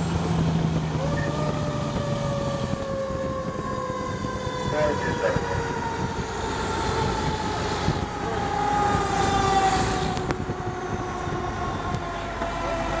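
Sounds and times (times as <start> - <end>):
fire engine siren: 0.0 - 13.0
truck running noise: 0.0 - 13.0.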